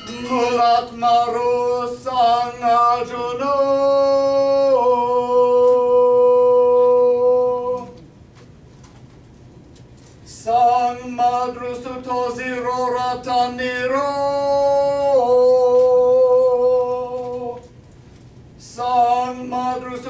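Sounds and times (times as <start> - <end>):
person chanting: 0.0 - 8.0, 10.3 - 17.6, 18.6 - 20.0.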